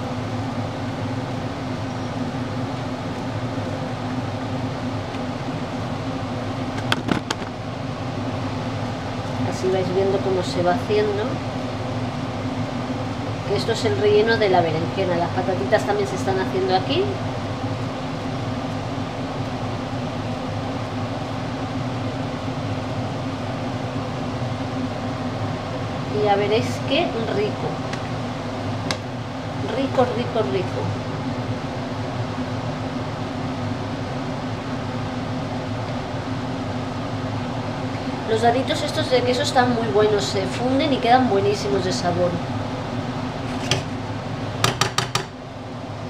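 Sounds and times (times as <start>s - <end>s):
potatoes boiling in a pot: 0.0s - 46.0s
steady low hum: 0.0s - 46.0s.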